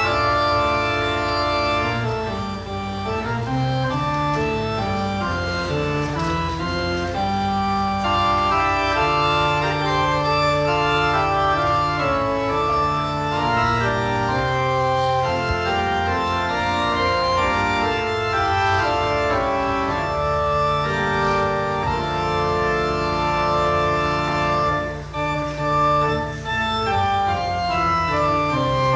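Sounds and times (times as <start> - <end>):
organ playing sustained chords: 0.0 - 28.9.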